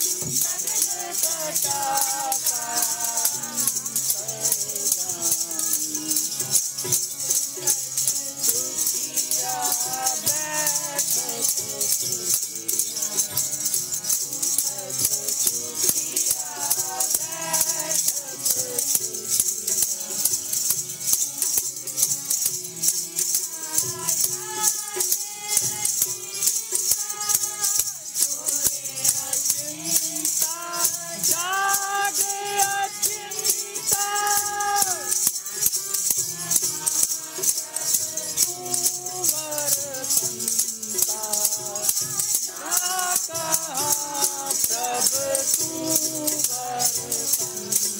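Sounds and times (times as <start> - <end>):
jingling shaker percussion: 0.0 - 47.9
person singing devotional music: 0.0 - 47.9.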